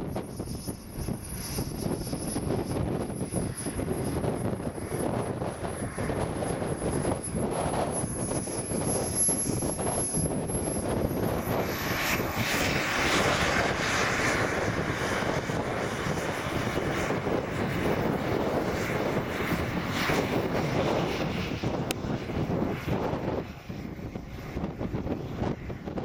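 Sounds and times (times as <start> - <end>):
thin high whine: 0.0 - 21.0
model airplane motor and propeller: 0.0 - 26.0.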